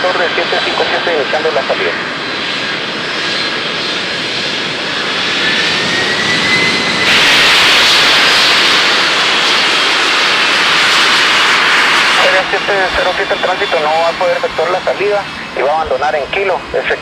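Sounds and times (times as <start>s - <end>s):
jet engines spooling up: 0.0s - 17.0s.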